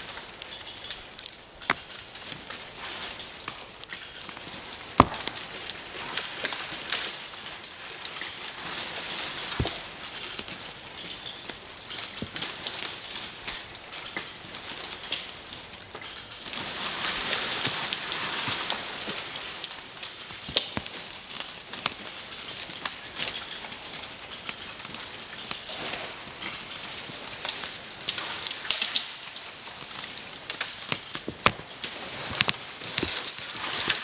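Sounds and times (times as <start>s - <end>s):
roots crackling and clicking: 0.0s - 34.0s.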